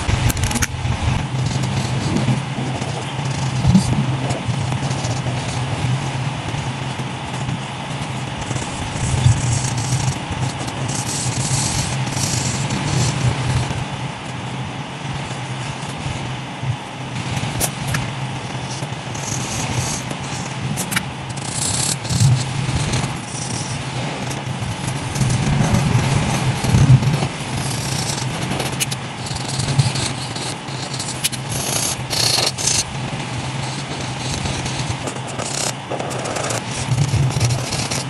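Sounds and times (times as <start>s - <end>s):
steady low hum: 0.0s - 38.0s
marker scratching on paper: 1.3s - 6.1s, 8.2s - 13.6s, 17.5s - 38.0s.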